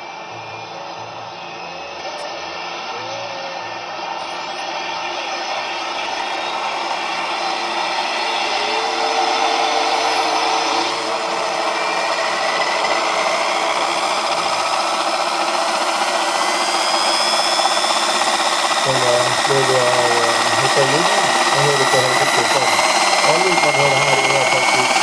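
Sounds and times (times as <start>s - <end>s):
model helicopter whirring: 0.0s - 25.0s.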